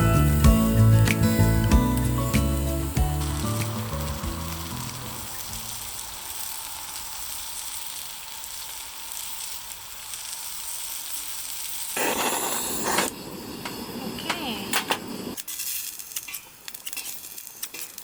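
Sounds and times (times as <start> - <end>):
food sizzling in a grill pan: 0.0 - 18.0.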